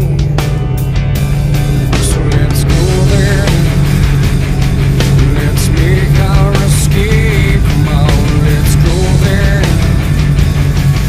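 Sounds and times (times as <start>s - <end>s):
loud hard rock music: 0.0s - 11.0s.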